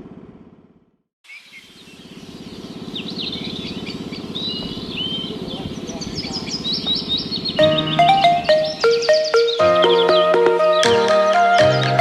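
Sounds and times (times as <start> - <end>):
small birds chirping: 1.2 - 12.0
pulsing engine hum: 1.7 - 12.0.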